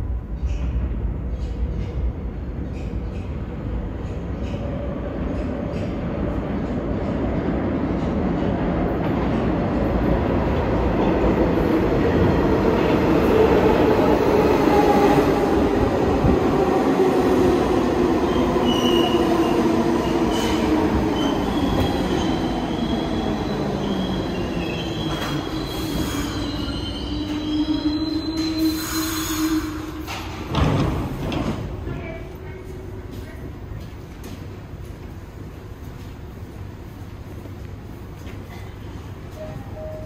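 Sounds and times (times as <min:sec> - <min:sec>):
train wheels rumbling on rail: 0:00.0 - 0:39.5.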